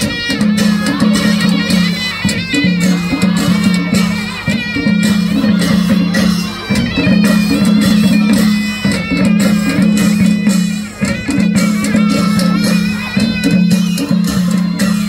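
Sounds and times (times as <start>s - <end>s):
drums and cymbals beating: 0.0s - 15.0s.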